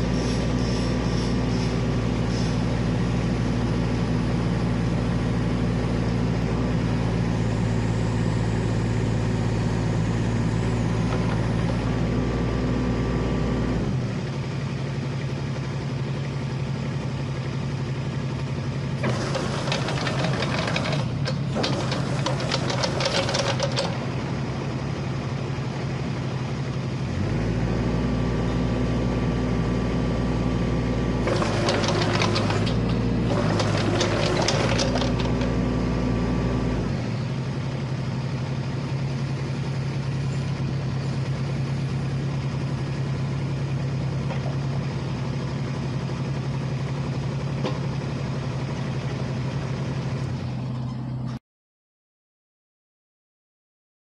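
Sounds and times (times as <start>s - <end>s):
excavator diesel engine running: 0.0s - 51.4s.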